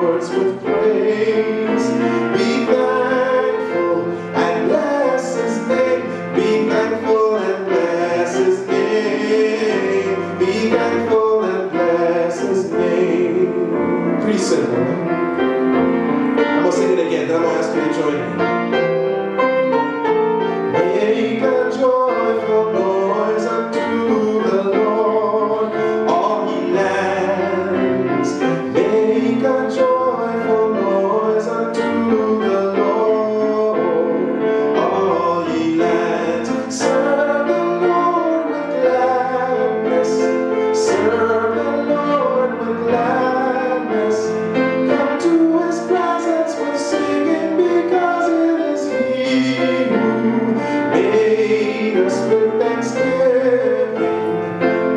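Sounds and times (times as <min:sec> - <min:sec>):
man singing: 0:00.0 - 0:15.2, 0:16.4 - 0:18.9, 0:20.7 - 0:54.9
keyboard accompaniment: 0:00.0 - 0:54.9.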